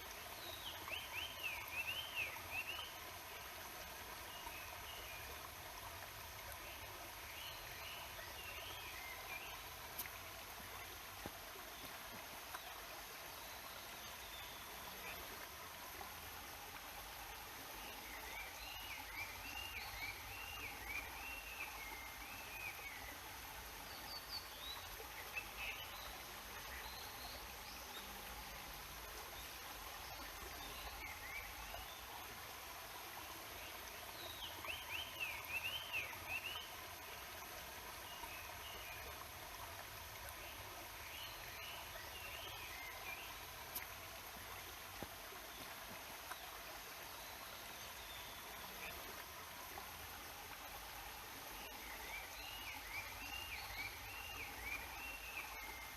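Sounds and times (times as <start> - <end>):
mountain stream rushing: 0.0 - 55.9.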